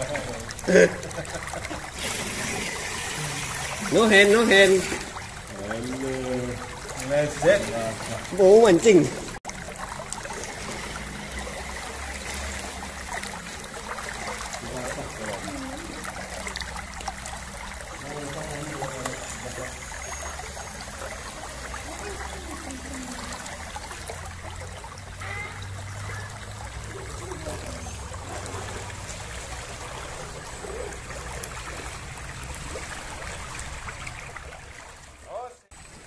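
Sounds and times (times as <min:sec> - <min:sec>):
stream trickling over rocks: 0:00.0 - 0:36.0.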